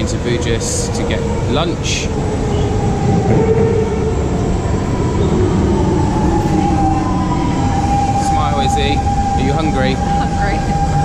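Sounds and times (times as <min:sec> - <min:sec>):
metro train rumbling and whining: 0:00.0 - 0:11.0.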